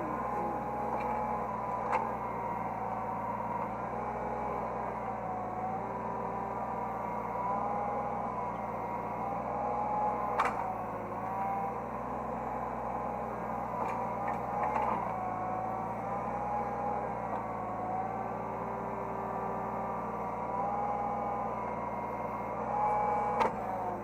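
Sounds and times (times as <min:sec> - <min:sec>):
hydraulic whine: 0:00.0 - 0:12.2, 0:12.8 - 0:24.0
excavator engine hum: 0:00.0 - 0:24.0.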